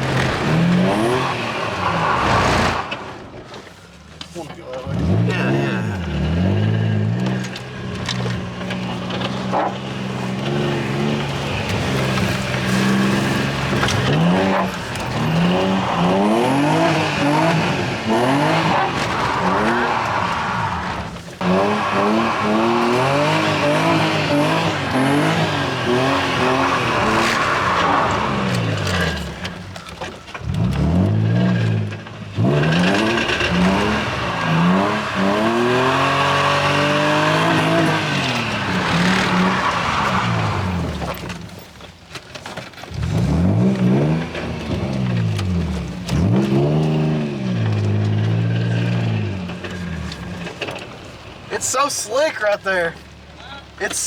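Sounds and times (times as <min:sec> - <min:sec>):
car engine revving: 0:00.0 - 0:41.6, 0:42.9 - 0:54.0.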